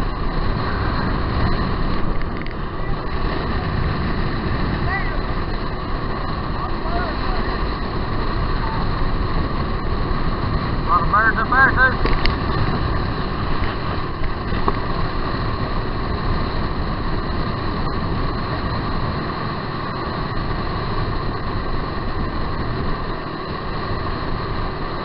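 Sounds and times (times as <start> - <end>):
motorboat engine drone: 0.0 - 25.0
water rushing: 0.0 - 25.0
wind: 0.0 - 25.0.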